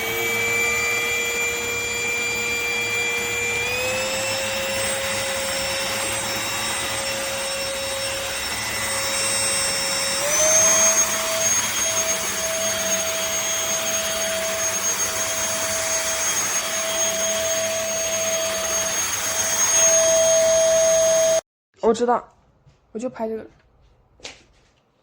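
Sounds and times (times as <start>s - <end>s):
vacuum cleaner motor whine: 0.0s - 21.4s.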